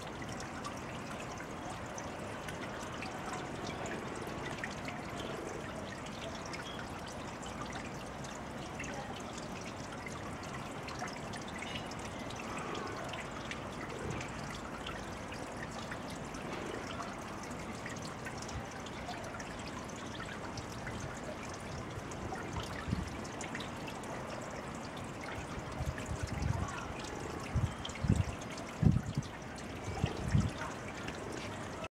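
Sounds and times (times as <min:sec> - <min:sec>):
water trickling into pond: 0:00.0 - 0:31.9.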